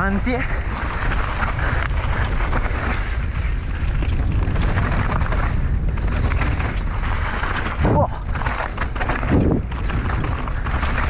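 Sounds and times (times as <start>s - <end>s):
bike clicks and rattles: 0.0s - 11.0s
bike tyre noise on dirt: 0.0s - 11.0s
wind rumble on microphone: 0.0s - 11.0s.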